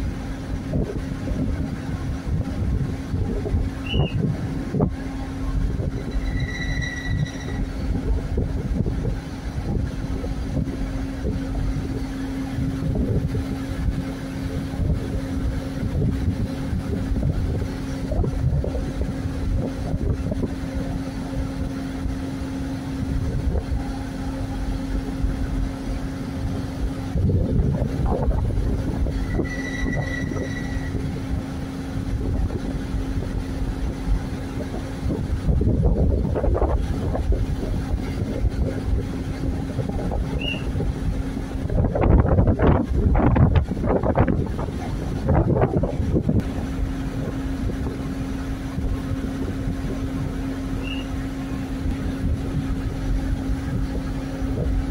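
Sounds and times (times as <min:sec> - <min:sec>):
diesel engines humming: 0:00.0 - 0:54.9
wind rumble on microphone: 0:00.0 - 0:54.9.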